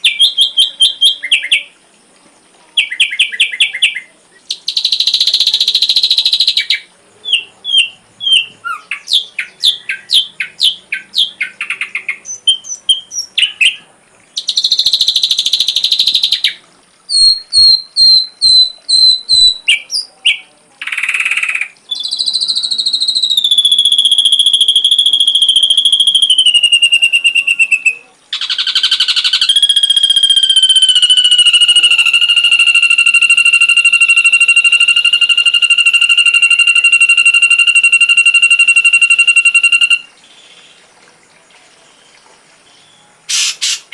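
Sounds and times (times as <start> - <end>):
bird song with chirps and buzzes: 0.0 - 1.8, 2.7 - 43.9
long whistled bird tones: 0.0 - 1.8, 2.8 - 40.8.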